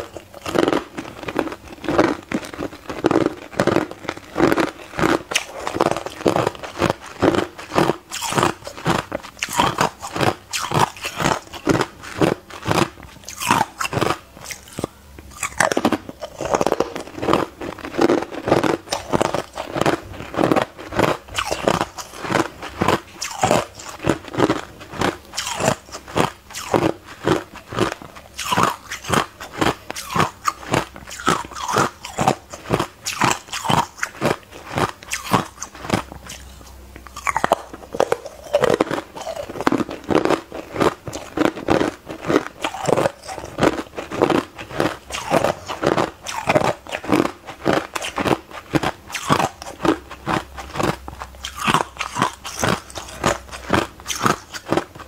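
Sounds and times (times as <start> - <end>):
chewing crunchy ice: 0.0 - 55.0.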